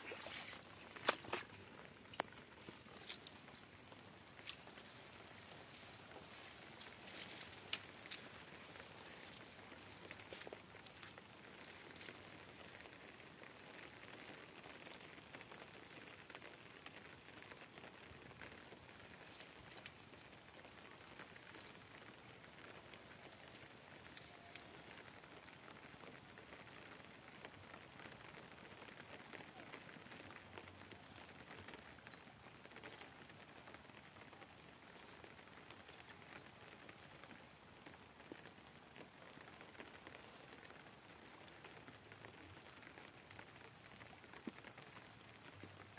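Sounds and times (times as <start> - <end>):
faint outdoor hiss: 0.0 - 45.9.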